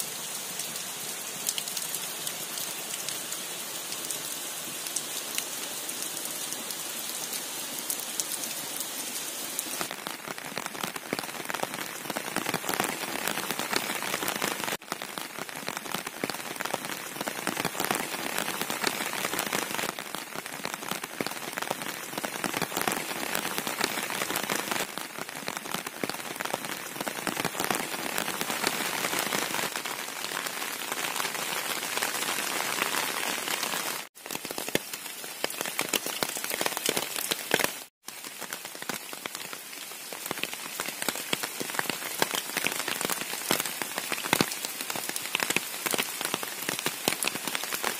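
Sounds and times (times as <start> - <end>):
heavy rain patter: 0.0 - 47.9.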